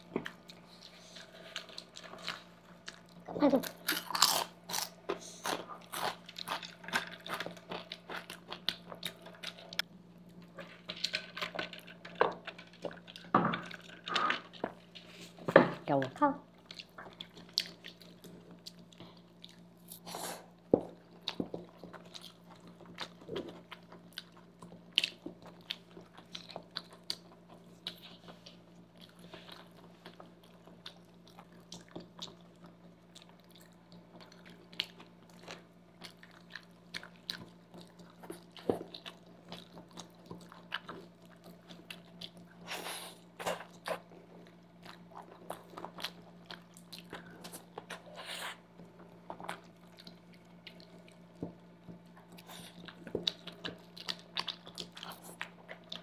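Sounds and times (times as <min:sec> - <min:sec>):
faint steady hum: 0:00.0 - 0:56.0
people chewing food: 0:00.0 - 0:56.0.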